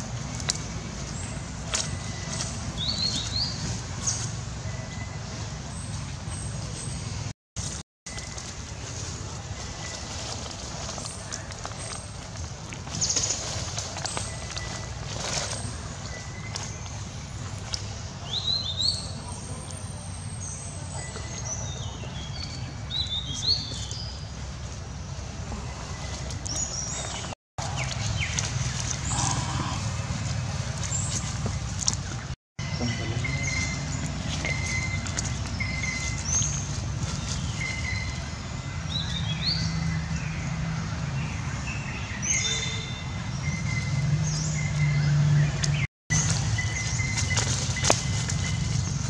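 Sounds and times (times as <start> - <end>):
birds chirping: 8.1 - 49.0.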